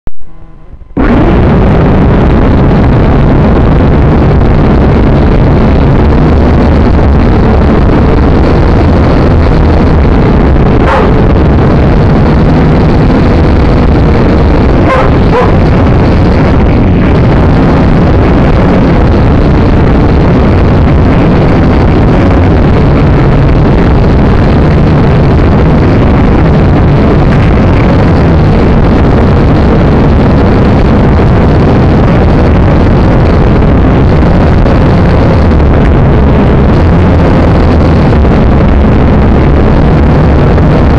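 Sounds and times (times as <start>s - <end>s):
drone propellers buzzing: 0.2s - 40.9s.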